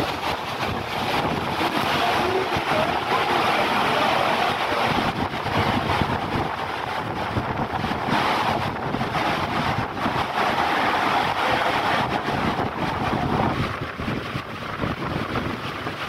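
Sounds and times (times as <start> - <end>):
rush of ship wake: 0.0 - 16.0
wind buffeting microphone: 0.0 - 16.0.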